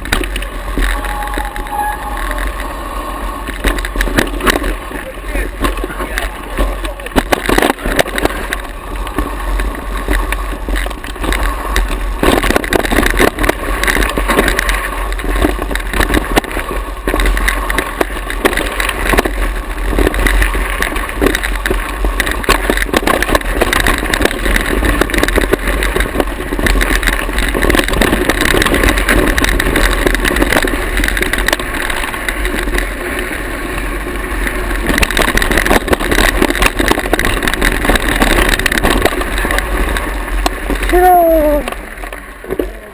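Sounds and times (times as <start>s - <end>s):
bike rattling over rough ground: 0.0s - 42.9s
wind rumbling on microphone: 0.0s - 42.9s.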